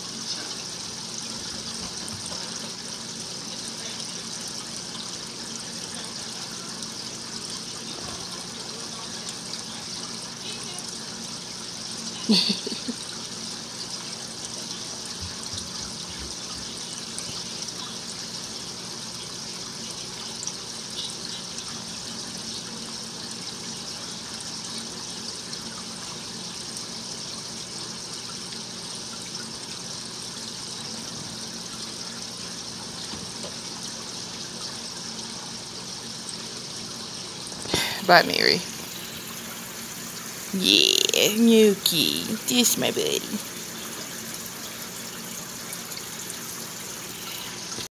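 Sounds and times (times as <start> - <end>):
aquarium air stone bubbling: 2.5 - 47.9.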